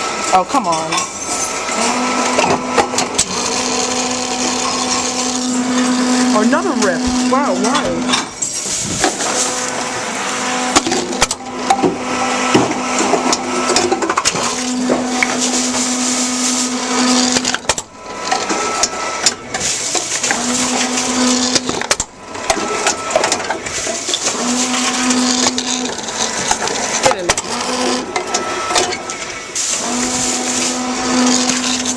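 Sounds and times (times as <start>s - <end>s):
vending machine motor humming: 0.0s - 31.9s.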